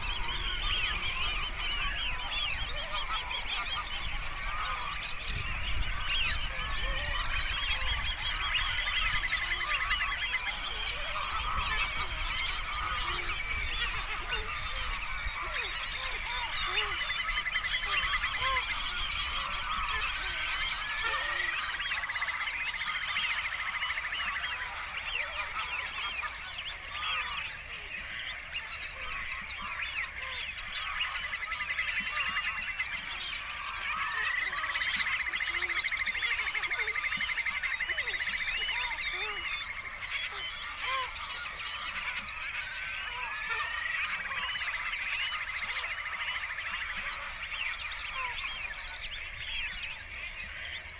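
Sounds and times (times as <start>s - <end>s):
chorus of bird calls: 0.0s - 50.9s.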